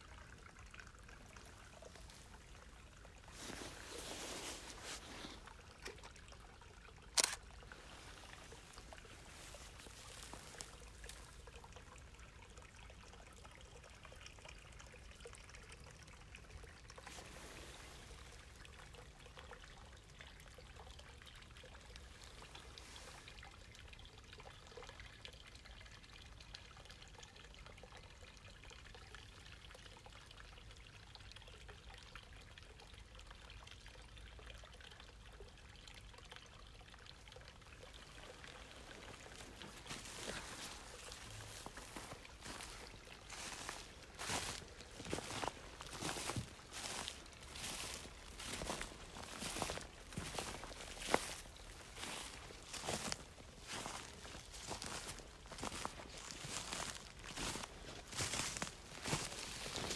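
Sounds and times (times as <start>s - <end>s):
river trickling: 0.0s - 59.9s.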